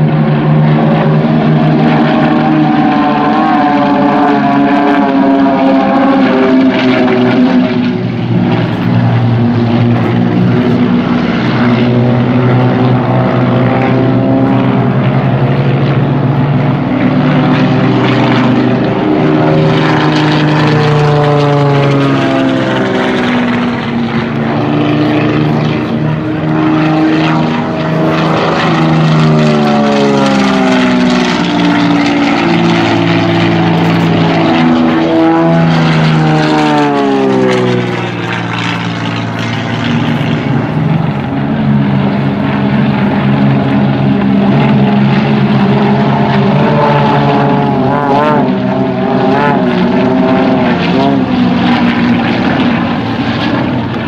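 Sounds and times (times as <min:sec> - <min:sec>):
propeller plane engines droning: 0:00.0 - 0:54.0.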